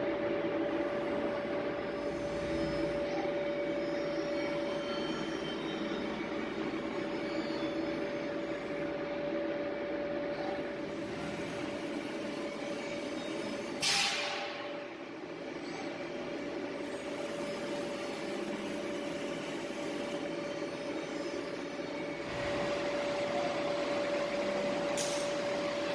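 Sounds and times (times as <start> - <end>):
machine whining: 0.4 - 25.9.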